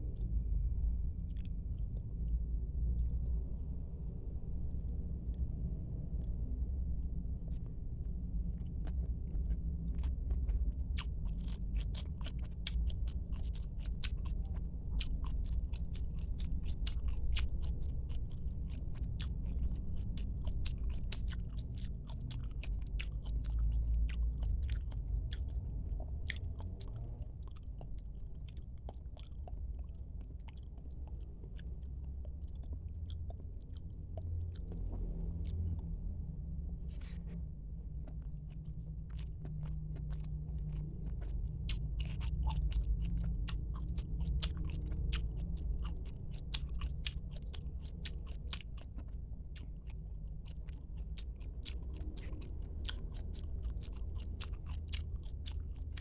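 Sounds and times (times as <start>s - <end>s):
low hum: 0.0s - 56.0s
wet chewing clicks: 0.0s - 56.0s.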